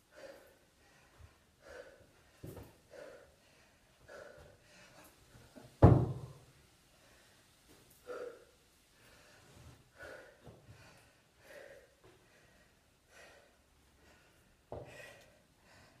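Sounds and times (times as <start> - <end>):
person breathing hard: 0.0 - 5.6, 6.9 - 16.0.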